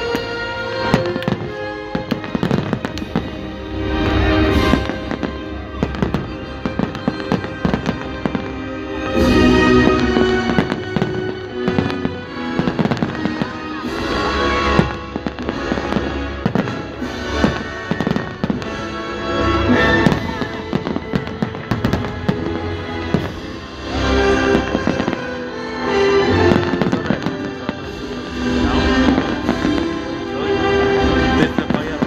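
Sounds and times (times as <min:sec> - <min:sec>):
fireworks bangs and crackles: 0:00.0 - 0:32.0
loud music with sustained tones: 0:00.0 - 0:32.0.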